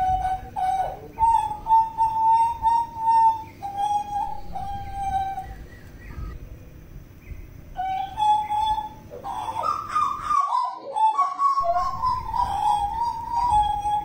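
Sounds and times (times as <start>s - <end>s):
bird singing whistled notes: 0.0s - 6.4s, 7.2s - 14.0s.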